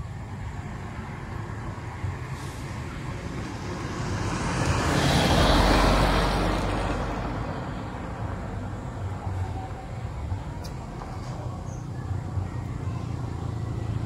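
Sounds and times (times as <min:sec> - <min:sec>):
car passing: 0:00.0 - 0:14.0.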